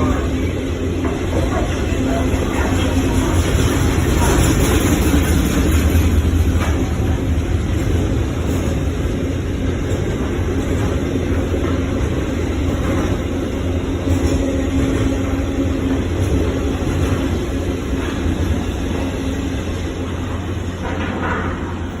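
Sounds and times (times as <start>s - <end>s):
freight train rumbling: 0.0s - 22.0s.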